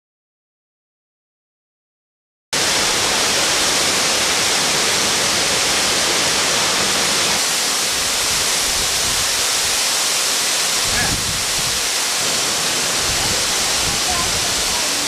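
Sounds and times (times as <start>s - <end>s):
waterfall rushing: 2.6s - 15.0s.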